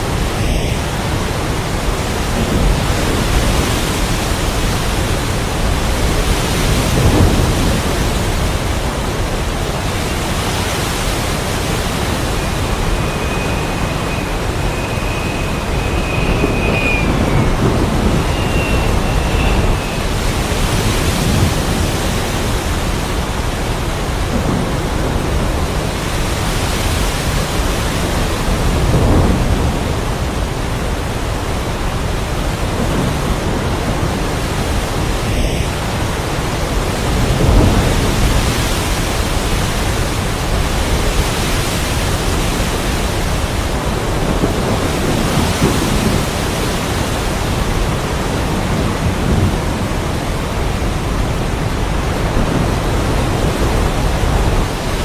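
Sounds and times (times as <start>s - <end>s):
heavy rain: 0.0s - 55.0s
thunder rumbles: 0.0s - 55.0s.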